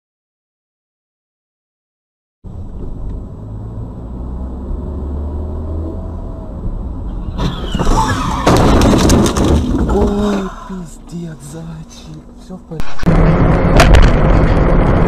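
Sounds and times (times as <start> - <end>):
car engine and road rumble: 2.4 - 15.0.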